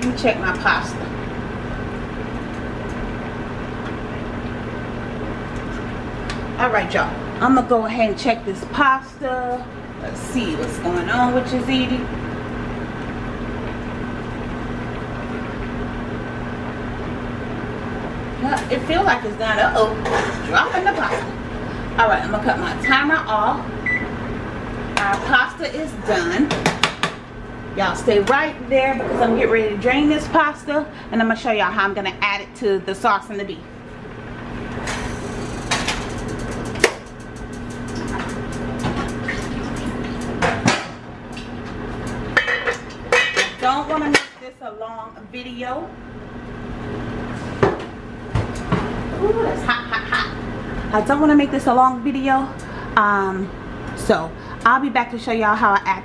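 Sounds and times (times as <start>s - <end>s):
kitchen background hum: 0.0s - 56.0s.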